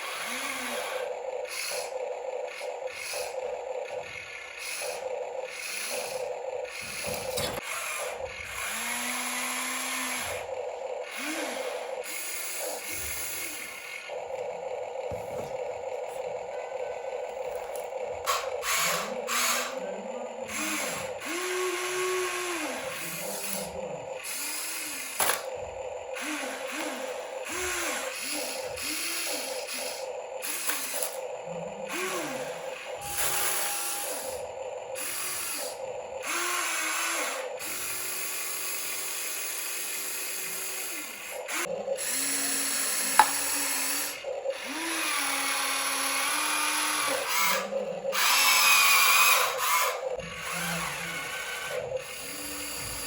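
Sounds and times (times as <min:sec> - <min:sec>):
small electric motors whirring: 0:00.0 - 0:53.0.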